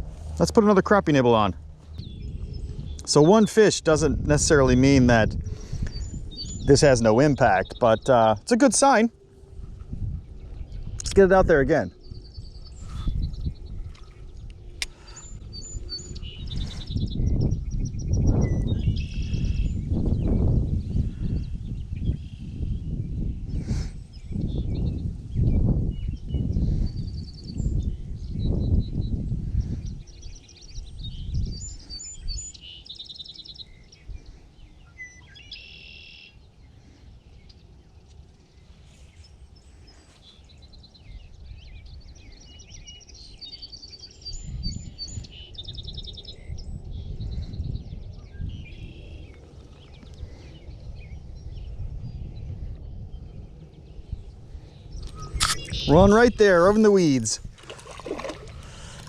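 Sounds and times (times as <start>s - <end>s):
wind on microphone: 0.0s - 8.4s, 9.1s - 32.6s, 40.5s - 59.0s
songbirds singing: 0.0s - 59.0s.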